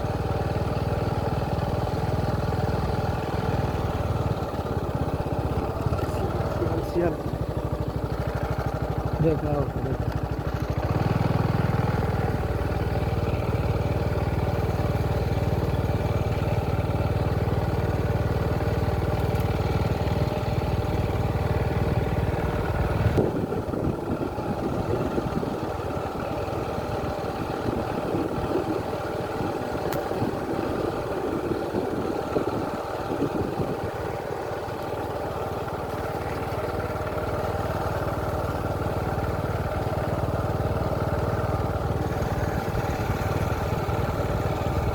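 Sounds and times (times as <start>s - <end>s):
engine high steady drone: 0.0s - 44.9s
engine low rumble: 0.0s - 44.9s.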